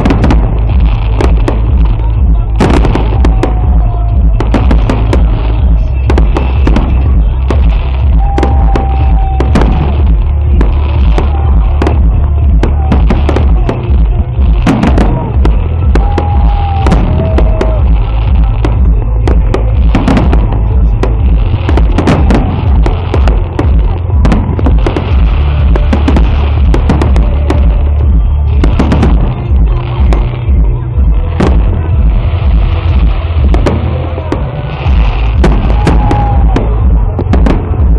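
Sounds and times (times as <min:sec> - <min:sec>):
deep fireworks booms: 0:00.0 - 0:37.9
fireworks bangs and crackles: 0:00.0 - 0:37.9.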